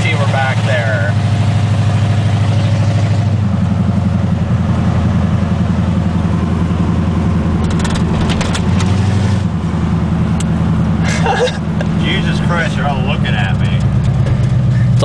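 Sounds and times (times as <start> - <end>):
truck exhaust rumble: 0.0 - 15.0.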